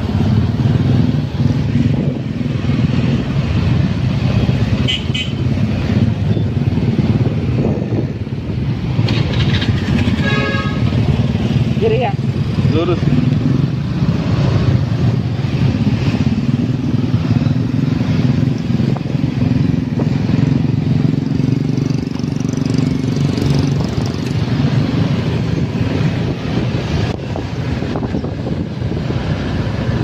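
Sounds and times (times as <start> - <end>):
motorcycle engines droning: 0.0 - 30.0.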